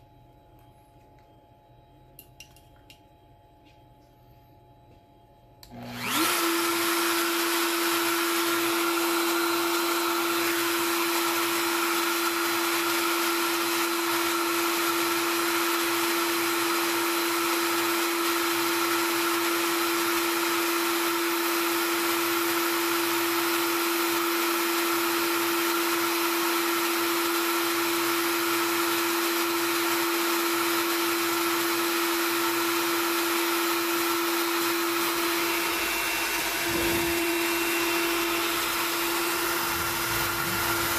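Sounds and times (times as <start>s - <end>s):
router whining: 5.6s - 40.9s.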